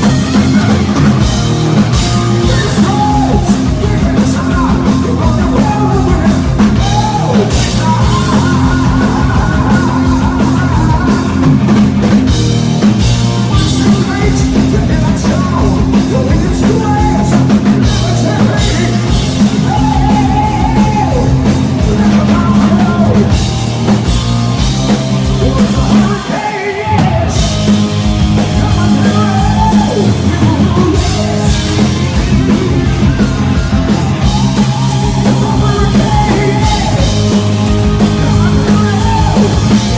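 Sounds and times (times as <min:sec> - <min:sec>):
distorted electric guitars: 0:00.0 - 0:39.9
drum kit: 0:00.0 - 0:39.9
man shouting and singing: 0:01.9 - 0:11.6, 0:13.5 - 0:23.4, 0:25.4 - 0:27.7, 0:28.4 - 0:32.9, 0:33.8 - 0:39.9.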